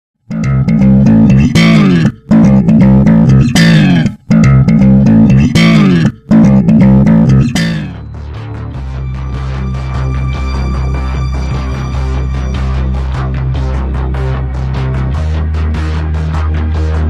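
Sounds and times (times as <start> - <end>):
loud rock music: 0.3 - 17.0.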